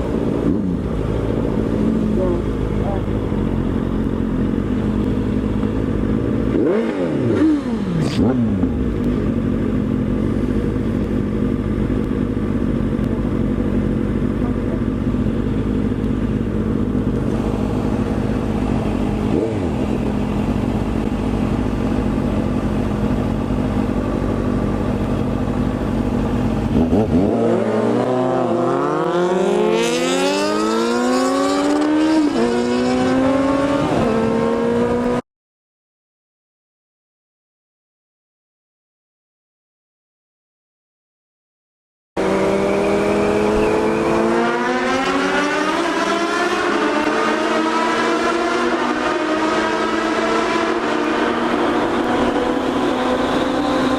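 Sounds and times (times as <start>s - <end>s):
motorcycle engine revving: 0.0s - 35.2s, 42.2s - 53.9s.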